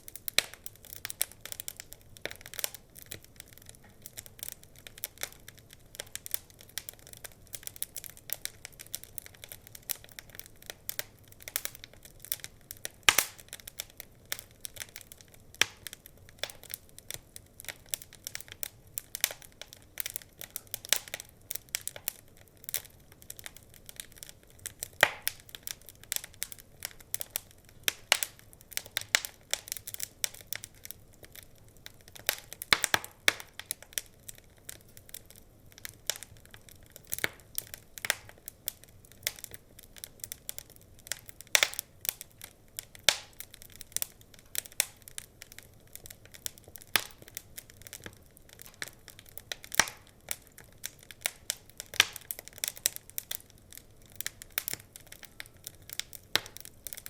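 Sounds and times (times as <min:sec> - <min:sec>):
wood fire crackling in fireplace: 0:00.0 - 0:57.0.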